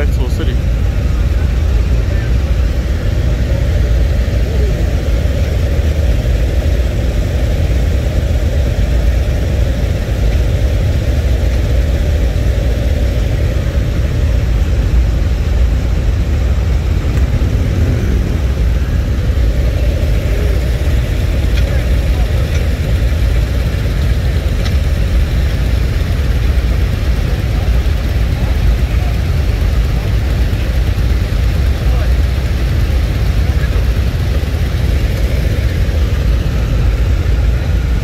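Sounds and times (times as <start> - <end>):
motorcycles idling: 0.0 - 38.0.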